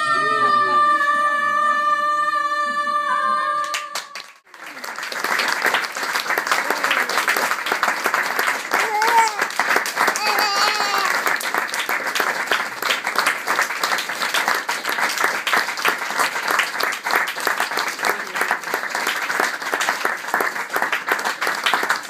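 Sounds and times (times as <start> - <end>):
audience applauding: 3.6 - 22.0.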